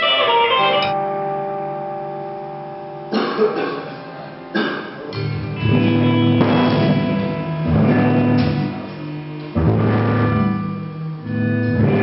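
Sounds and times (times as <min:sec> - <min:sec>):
guitar chords strummed: 0:00.0 - 0:12.0
low held notes: 0:00.0 - 0:12.0.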